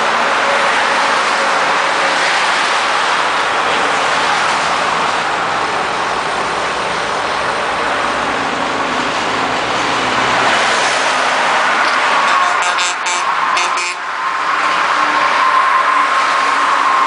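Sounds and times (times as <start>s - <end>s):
trucks passing on highway: 0.0s - 17.0s.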